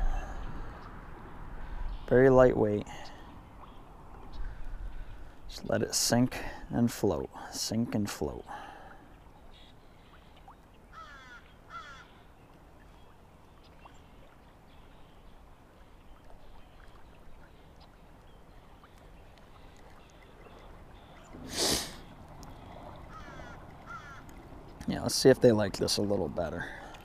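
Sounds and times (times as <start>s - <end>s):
bird calls: 0.0s - 5.8s, 8.2s - 25.0s.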